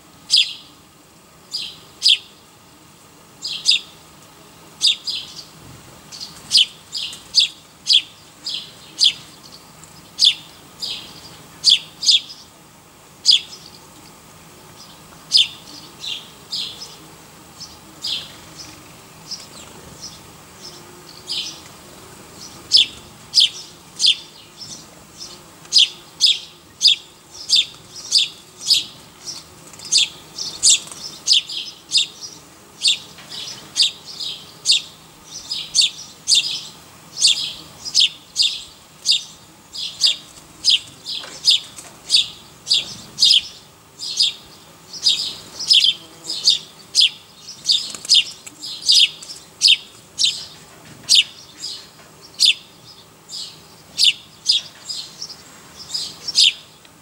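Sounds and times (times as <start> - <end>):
small bird chirping: 0.3 - 0.7, 1.5 - 2.5, 3.4 - 4.0, 4.8 - 5.5, 6.1 - 12.5, 13.2 - 13.9, 14.8 - 17.0, 22.4 - 56.8.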